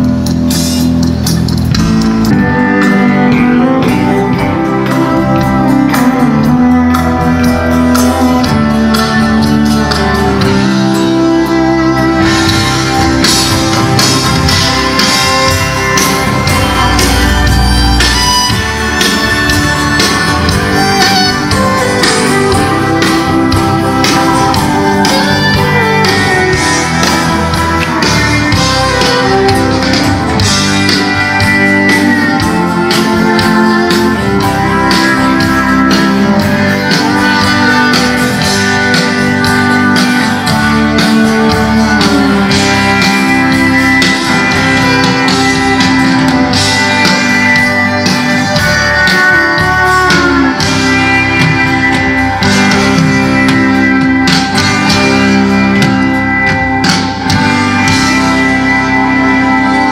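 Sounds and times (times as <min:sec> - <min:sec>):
band playing music: 0:00.0 - 0:59.9
drums: 0:00.0 - 0:59.9
guitars: 0:00.0 - 0:59.9.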